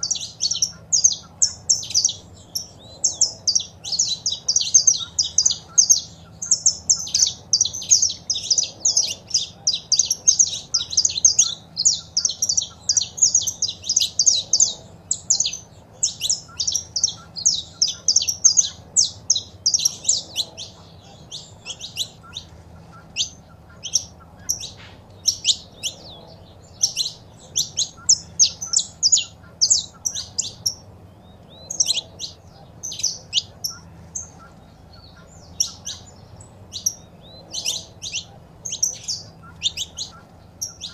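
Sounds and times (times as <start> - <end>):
finch chirping: 0.0 - 40.9.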